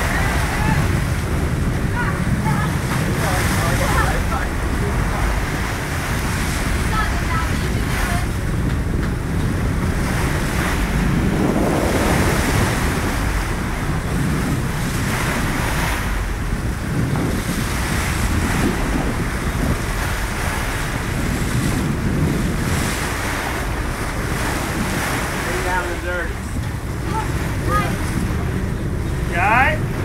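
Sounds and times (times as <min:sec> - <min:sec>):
sea waves: 0:00.0 - 0:30.0
wind buffeting microphone: 0:00.0 - 0:30.0.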